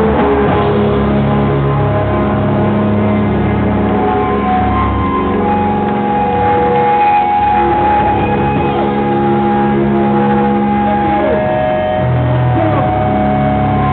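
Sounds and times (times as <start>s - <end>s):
drums: 0.0s - 13.9s
electric guitar: 0.0s - 13.9s.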